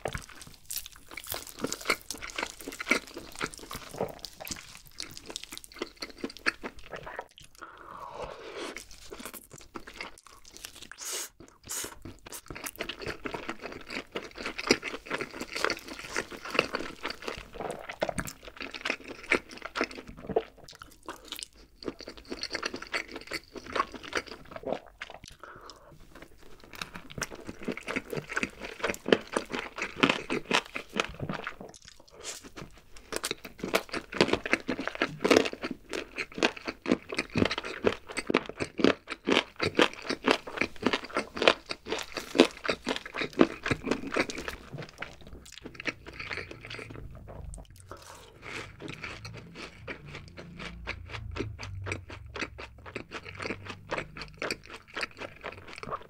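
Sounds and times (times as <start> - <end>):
biting and chewing chicken: 0.0 - 56.0.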